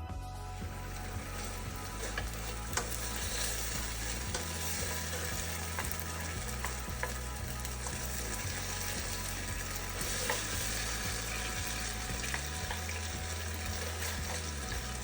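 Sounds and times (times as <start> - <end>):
chicken sizzling in a pan: 0.4 - 15.0
utensil tapping a pan: 0.7 - 15.0.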